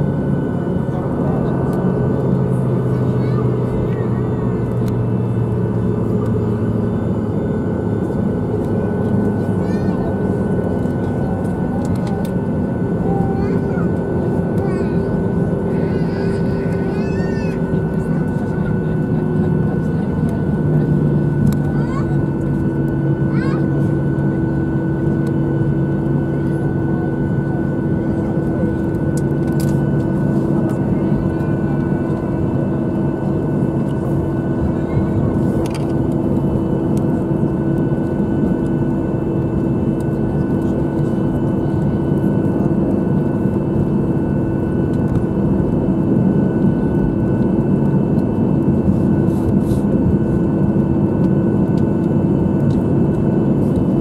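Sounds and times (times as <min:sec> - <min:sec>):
jet engines droning in cabin: 0:00.0 - 0:54.0.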